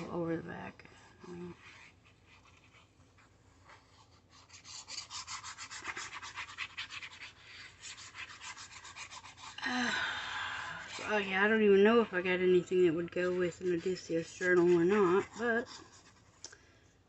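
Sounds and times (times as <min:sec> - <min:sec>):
glue stick rubbing on paper: 0:01.2 - 0:09.6, 0:10.8 - 0:16.4.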